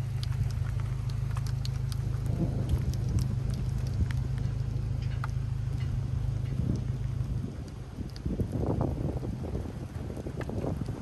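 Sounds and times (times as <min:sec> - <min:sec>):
low rumble: 0:00.0 - 0:11.0
rain falling: 0:00.0 - 0:11.0
sharp raindrop ticks: 0:00.0 - 0:11.0.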